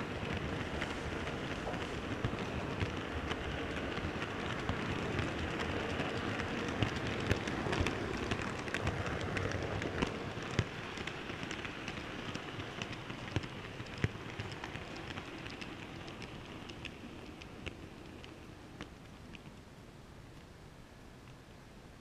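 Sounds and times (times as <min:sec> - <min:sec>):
model train wheels rattling on rails: 0:00.0 - 0:18.4
clicks over rail joints: 0:00.0 - 0:19.6.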